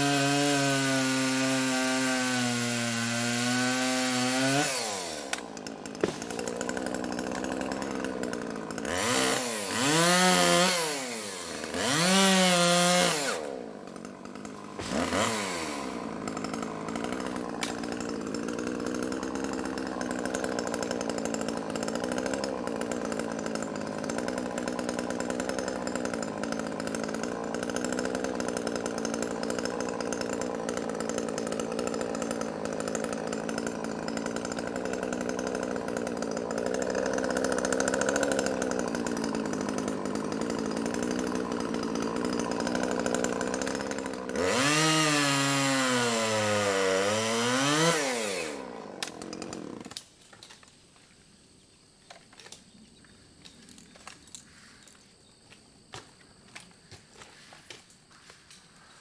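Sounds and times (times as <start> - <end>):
chainsaw engine revving: 0.0 - 50.1.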